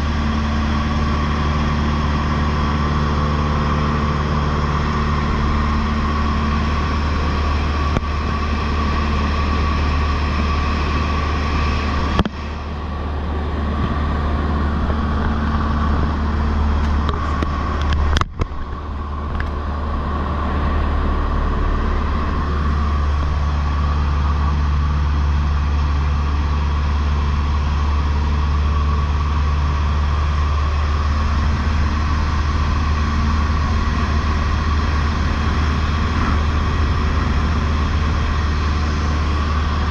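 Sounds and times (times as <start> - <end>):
airplane engine droning: 0.0 - 39.9
steady whine: 0.0 - 39.9.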